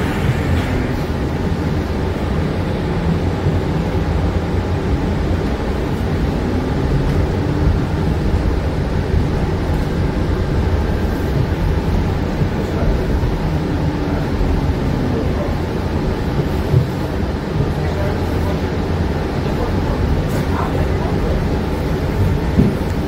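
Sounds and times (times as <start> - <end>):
bus road rumble: 0.0 - 23.0.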